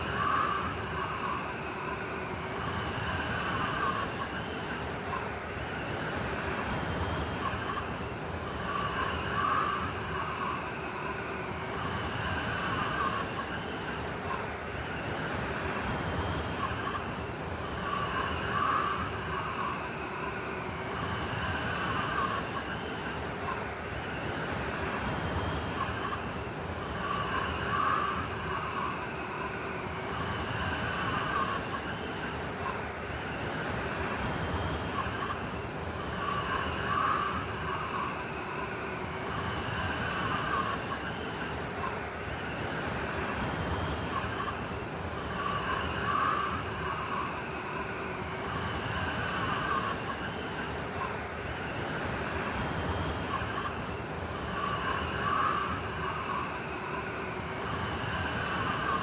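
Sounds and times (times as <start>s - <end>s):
blizzard wind howling: 0.0s - 59.0s.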